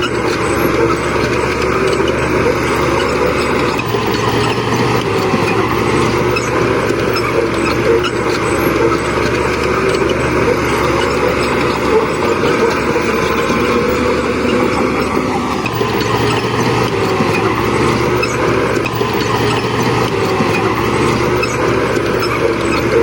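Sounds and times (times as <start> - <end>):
diesel engine running loudly: 0.0 - 23.0.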